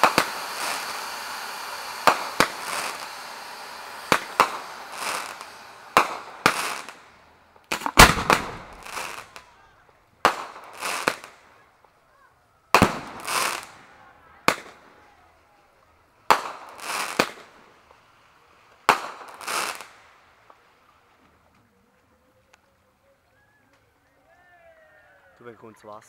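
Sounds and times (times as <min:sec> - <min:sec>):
fireworks bursting: 0:00.0 - 0:22.7.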